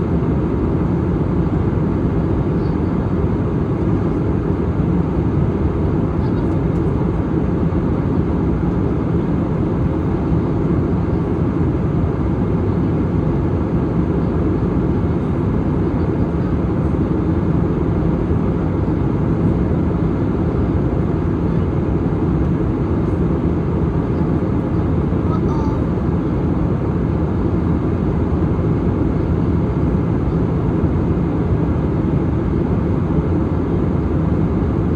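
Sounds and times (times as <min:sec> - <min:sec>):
jet engine rumble: 0:00.0 - 0:34.9.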